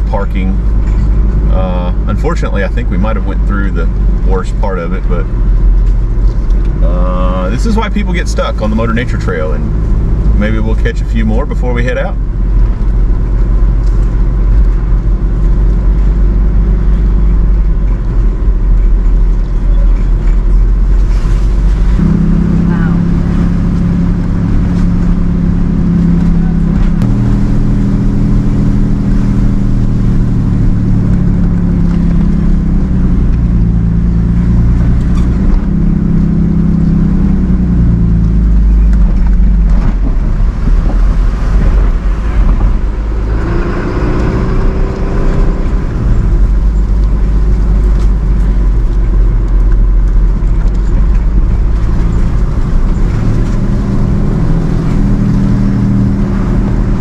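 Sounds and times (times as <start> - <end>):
low road rumble: 0.0 - 57.0
vehicle engine running: 0.0 - 57.0.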